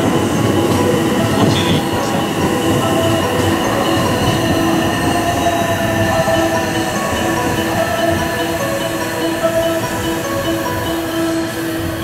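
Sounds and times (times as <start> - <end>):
station noise: 0.0 - 12.0
train electrical hum: 0.0 - 12.0.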